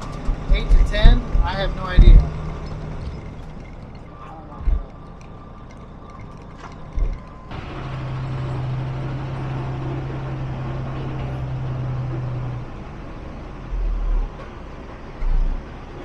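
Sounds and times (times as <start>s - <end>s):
dump truck engine running: 0.0s - 16.0s
low rumble: 0.0s - 16.0s.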